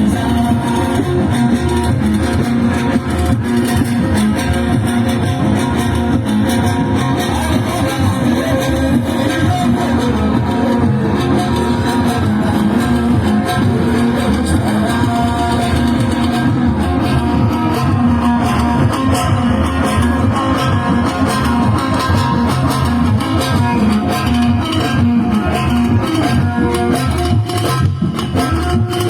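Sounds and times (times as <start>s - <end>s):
bass line: 0.0s - 29.0s
plucked string lead line: 0.0s - 29.0s.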